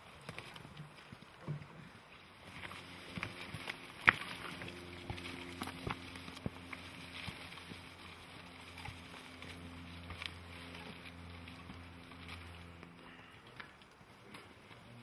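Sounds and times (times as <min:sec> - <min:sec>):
faint crackles: 0:00.0 - 0:15.0
footsteps in dry undergrowth: 0:00.0 - 0:15.0
low hum: 0:00.0 - 0:15.0.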